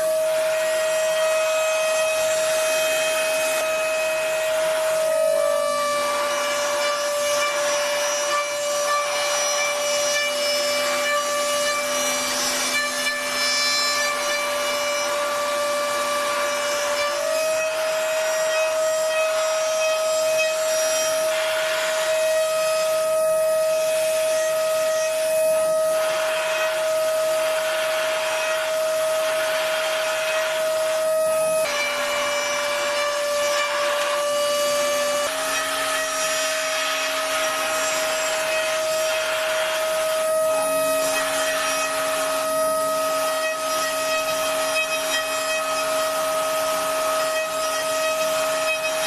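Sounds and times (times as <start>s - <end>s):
rough cutting noise: 0.0s - 23.1s, 23.7s - 49.0s
machine spindle whine: 0.0s - 49.0s.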